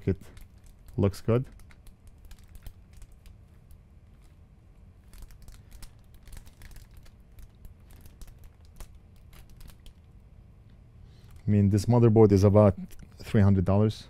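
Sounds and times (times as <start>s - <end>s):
faint irregular clicks: 0.0s - 11.5s
low steady background hum: 0.0s - 14.0s.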